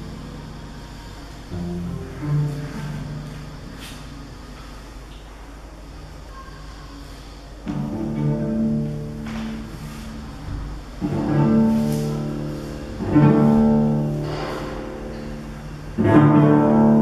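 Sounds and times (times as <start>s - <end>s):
cello bowed low notes: 0.0s - 4.8s, 7.6s - 17.0s.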